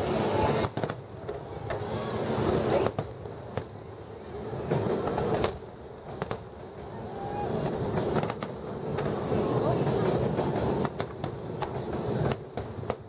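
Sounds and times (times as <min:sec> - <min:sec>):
fireworks bursting with bangs: 0:00.0 - 0:13.0
steady background noise: 0:00.0 - 0:13.0.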